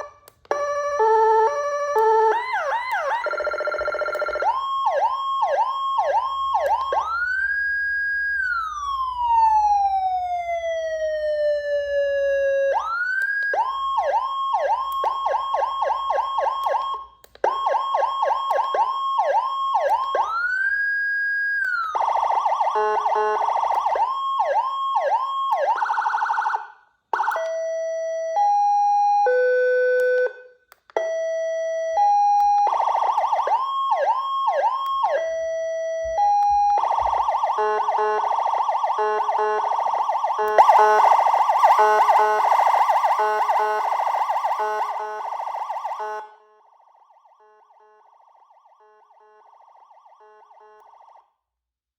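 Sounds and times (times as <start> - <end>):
electronic siren cycling tones: 0.0 - 26.6, 27.2 - 51.3.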